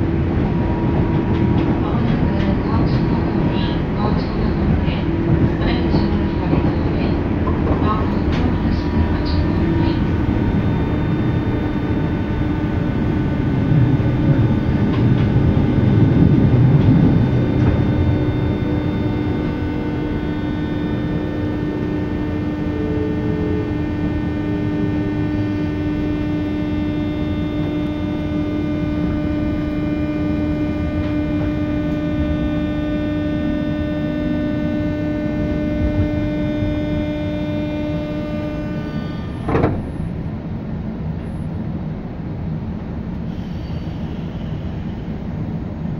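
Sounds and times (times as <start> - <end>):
falling electric whine: 0.0 - 41.3
electrical humming tones: 0.0 - 45.9
train running noise: 0.0 - 45.9.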